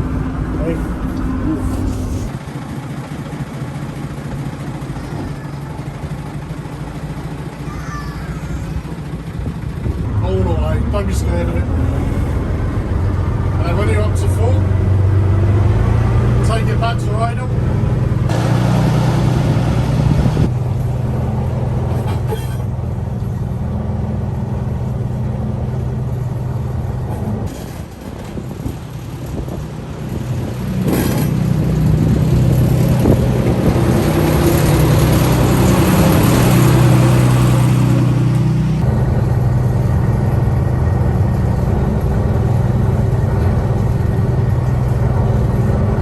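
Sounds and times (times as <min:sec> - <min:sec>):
diesel locomotive engine running: 0:00.0 - 0:46.0.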